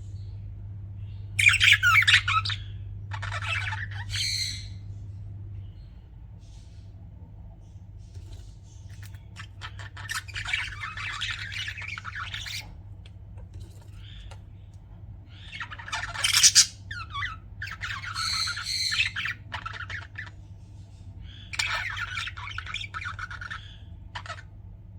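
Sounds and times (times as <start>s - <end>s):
budgerigars chirping and chattering: 1.1s - 5.0s, 8.0s - 24.6s.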